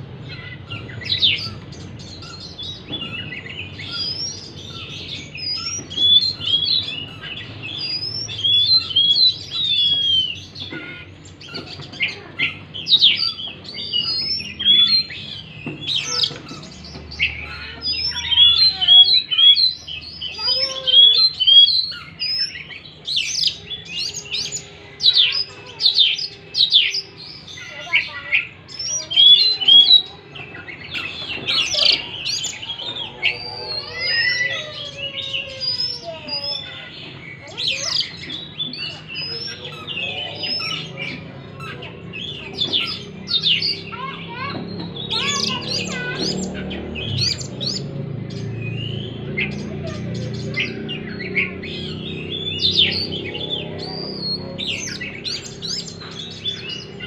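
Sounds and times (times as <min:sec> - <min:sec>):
bird singing whistles and trills: 0:00.2 - 0:57.0.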